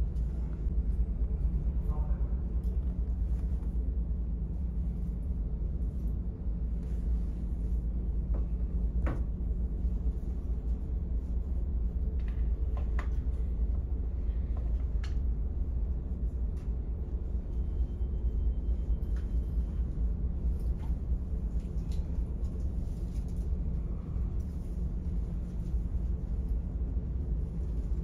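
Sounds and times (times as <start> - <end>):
low rumble of ship engines: 0.0 - 28.0.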